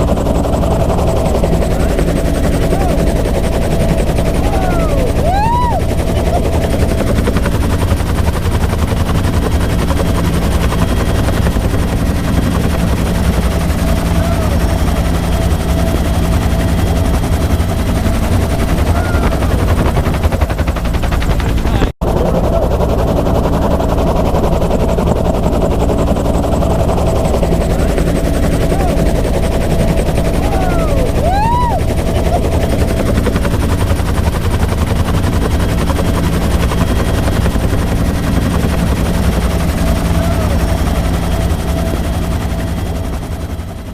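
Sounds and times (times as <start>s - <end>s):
turbine whine: 0.0s - 43.6s
helicopter rotor chop: 0.0s - 43.9s.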